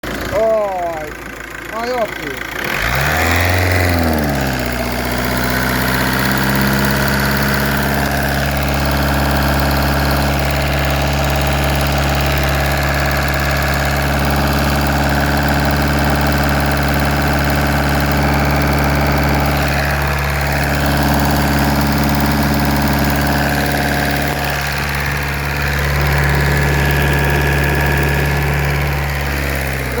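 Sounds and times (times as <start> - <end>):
diesel engine knocking at idle: 0.0 - 30.0.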